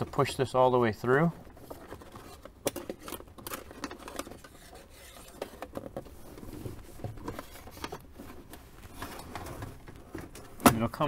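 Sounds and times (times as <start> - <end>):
cable scraping against plastic: 0.0 - 11.0.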